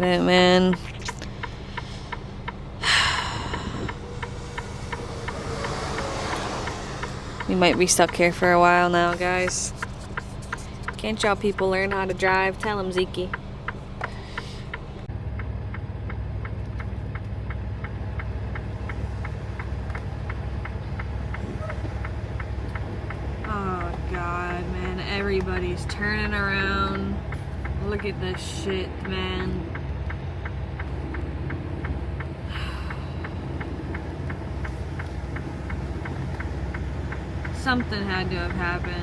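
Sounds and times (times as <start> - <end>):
diesel engine idling: 0.0 - 39.0
light ticking: 0.0 - 39.0
steady clicking: 0.0 - 39.0.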